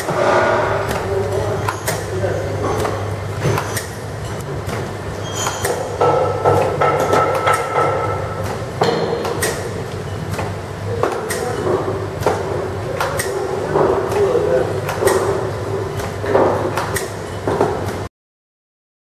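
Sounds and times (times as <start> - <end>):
machine mechanism clicks and clacks: 0.0 - 5.8, 6.4 - 18.1.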